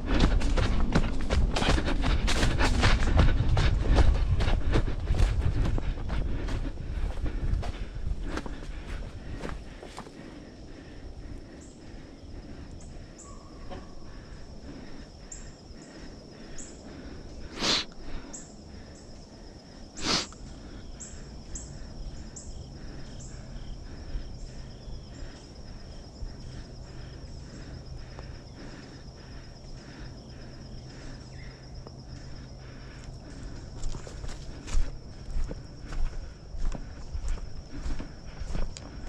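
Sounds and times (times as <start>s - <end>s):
insect drone: 0.0s - 39.0s.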